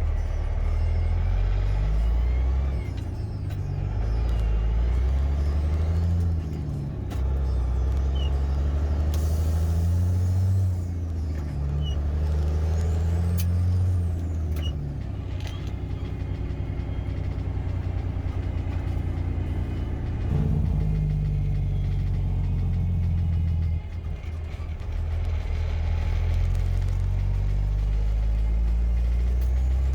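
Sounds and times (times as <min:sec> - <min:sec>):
truck engine droning: 0:00.0 - 0:29.9.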